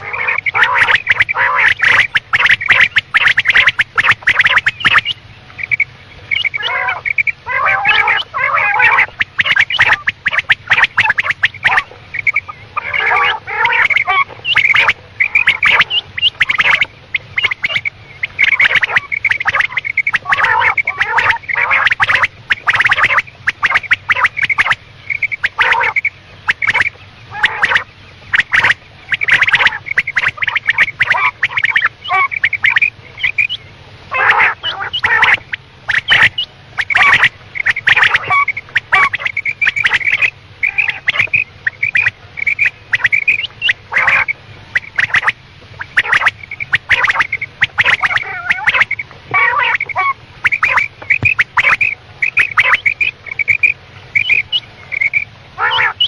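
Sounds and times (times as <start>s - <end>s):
quail calling: 0.0s - 56.0s.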